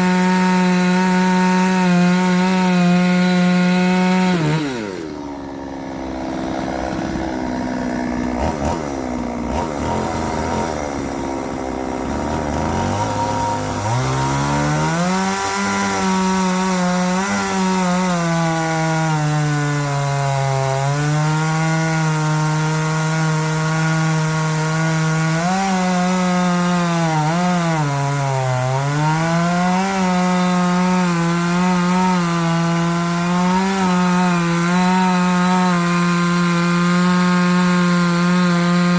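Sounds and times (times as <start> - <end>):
chainsaw cutting hardwood: 0.0 - 38.9.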